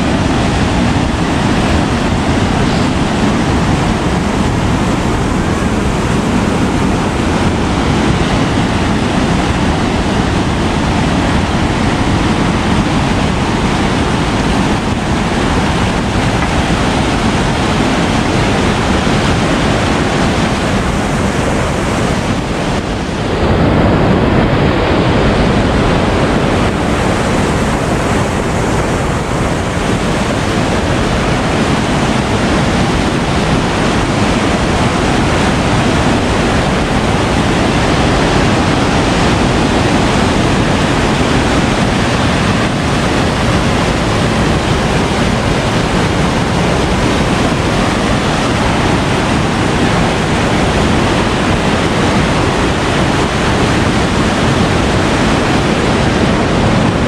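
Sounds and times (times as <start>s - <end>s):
whitewater rushing over weir: 0.0s - 57.0s.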